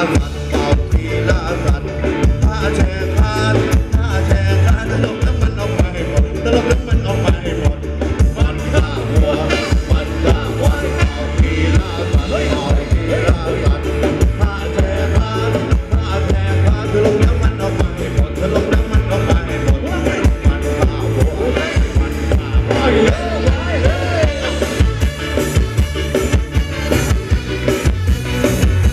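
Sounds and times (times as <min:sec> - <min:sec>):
person singing: 0:00.0 - 0:25.7
dance band playing: 0:00.0 - 0:28.9.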